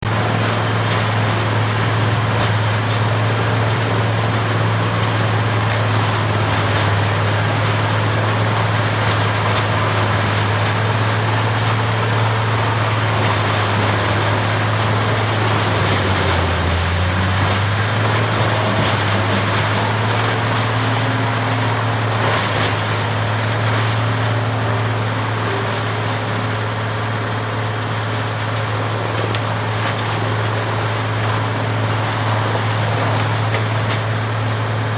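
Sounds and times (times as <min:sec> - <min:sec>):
loud engine drone: 0:00.0 - 0:34.9
wood grinding noise: 0:00.1 - 0:34.9.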